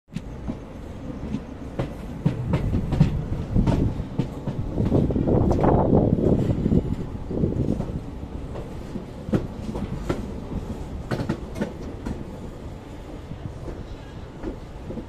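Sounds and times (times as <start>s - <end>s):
train coach rumbling: 0.1s - 15.0s.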